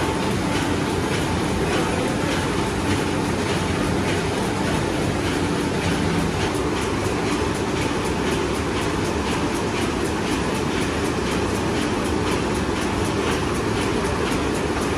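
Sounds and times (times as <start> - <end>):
bag making machine clattering: 0.0 - 14.9.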